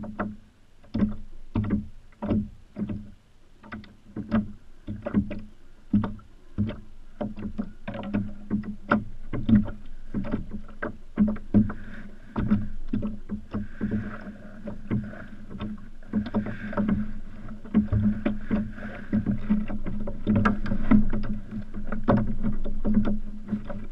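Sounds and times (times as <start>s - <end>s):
steady low hum: 0.0s - 23.9s
water slapping against hull: 0.0s - 23.9s.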